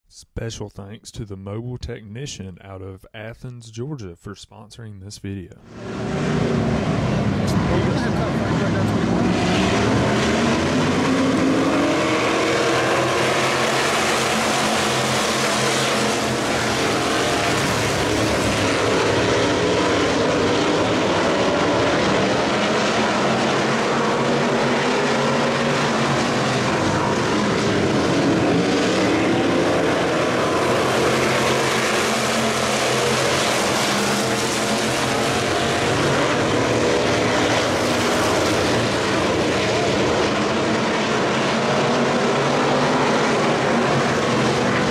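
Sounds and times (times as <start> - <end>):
race car engines droning: 0.1 - 44.9.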